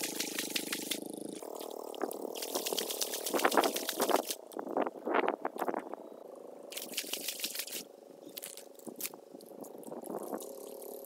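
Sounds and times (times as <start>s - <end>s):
water splashing and sloshing: 0.0s - 4.7s, 6.7s - 11.0s
faint steady hum: 0.0s - 11.0s.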